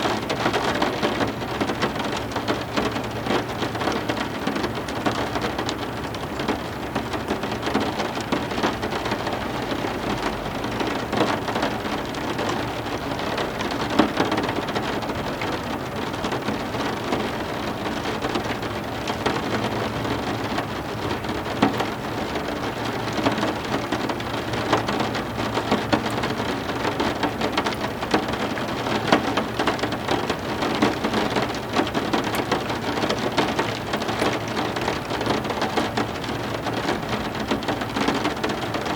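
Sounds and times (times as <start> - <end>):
heavy rain on hard surfaces: 0.0 - 38.9.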